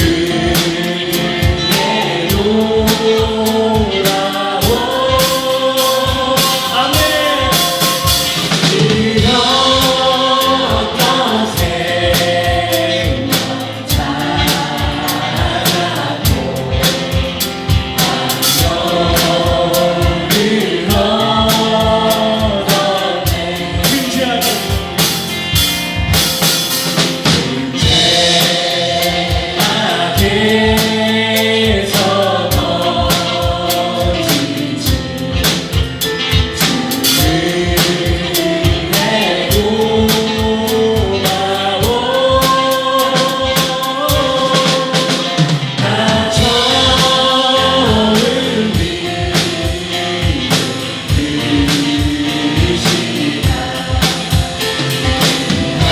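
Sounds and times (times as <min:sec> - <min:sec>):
band with drum beat: 0:00.0 - 0:55.9
group singing worship song: 0:00.0 - 0:55.9.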